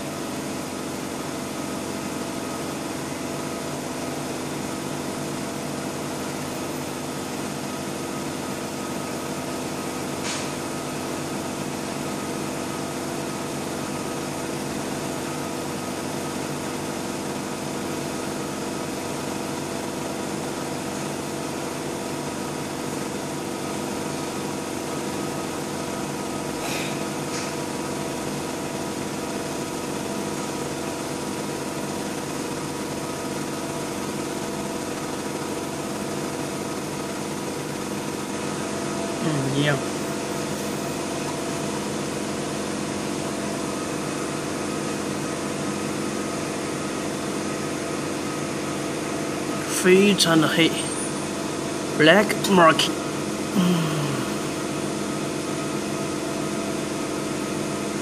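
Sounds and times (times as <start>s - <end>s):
laser marking machine humming: 0.0s - 58.0s.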